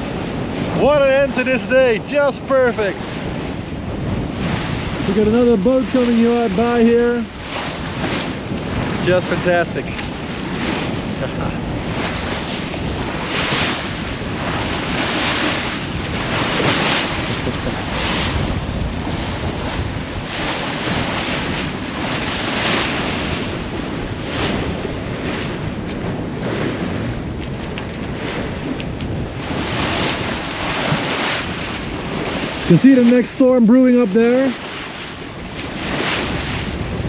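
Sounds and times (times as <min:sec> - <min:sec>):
water rushing along a hull: 0:00.0 - 0:37.0
wind buffeting microphone: 0:00.0 - 0:37.0.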